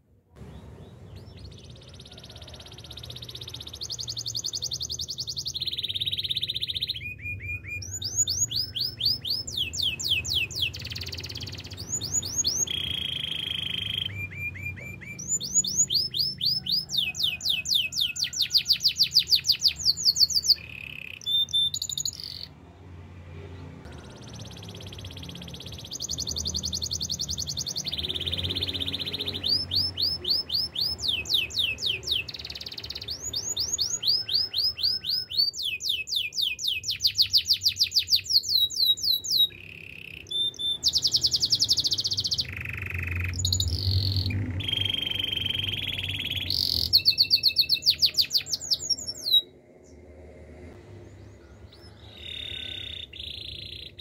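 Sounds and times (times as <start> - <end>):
canary singing trills: 0.4 - 22.6, 23.9 - 50.0, 51.2 - 54.0.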